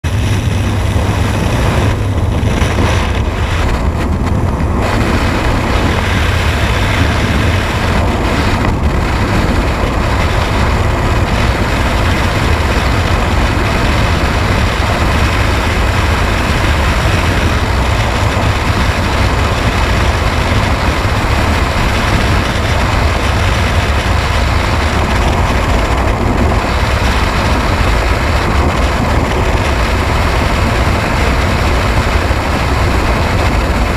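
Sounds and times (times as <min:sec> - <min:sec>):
engine running low rumble: 0:00.0 - 0:33.9.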